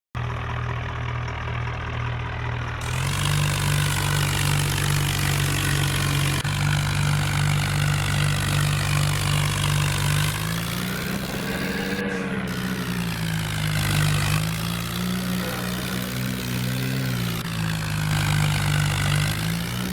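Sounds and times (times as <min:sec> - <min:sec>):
tractor engine running: 0:00.2 - 0:19.9.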